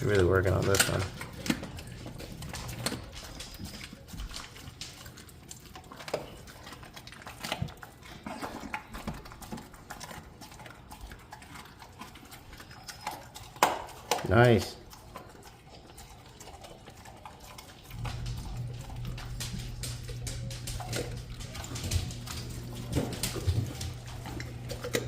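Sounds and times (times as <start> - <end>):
puppy chewing meat and bone: 0.0 - 25.0.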